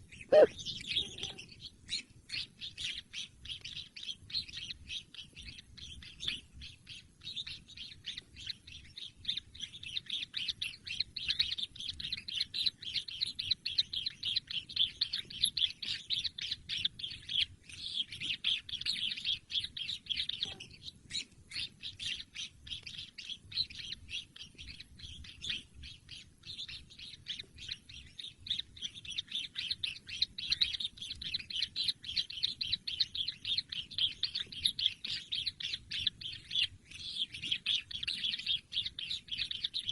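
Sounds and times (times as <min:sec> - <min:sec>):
chicks chirping: 0:00.1 - 0:39.9.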